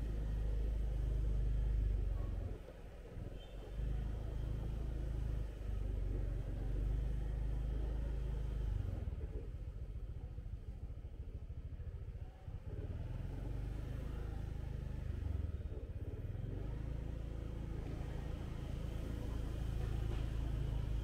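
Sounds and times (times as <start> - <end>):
motorbike engine running: 0.0 - 21.0.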